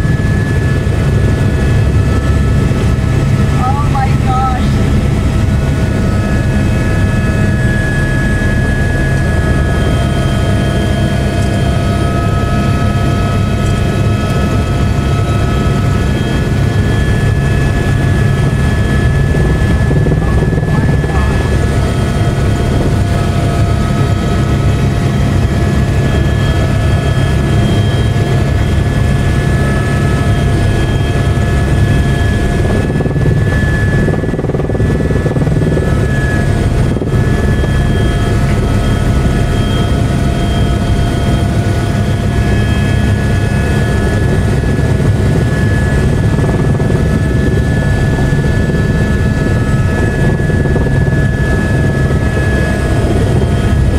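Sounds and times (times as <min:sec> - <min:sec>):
helicopter rotor and engine noise: 0:00.0 - 0:53.9
high turbine whine: 0:00.0 - 0:53.9.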